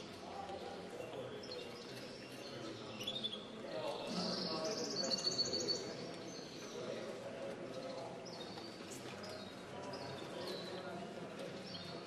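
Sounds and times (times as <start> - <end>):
murmur of people talking: 0.0 - 12.0.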